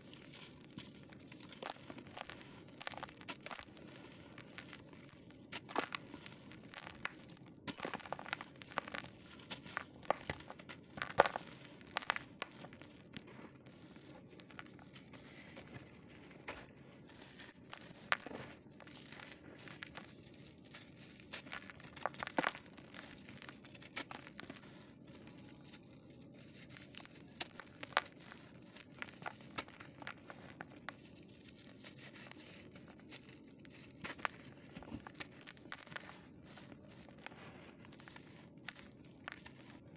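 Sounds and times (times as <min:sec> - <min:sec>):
dry dirt crunching: 0:00.0 - 0:39.9
powder trickling: 0:00.0 - 0:39.9.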